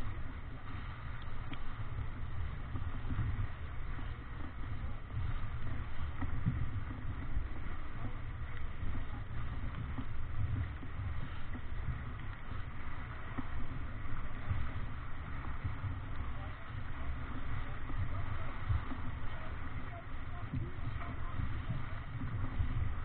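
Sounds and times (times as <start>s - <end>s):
water splashing along hull: 0.0s - 23.0s
wind buffeting microphone: 0.0s - 23.0s.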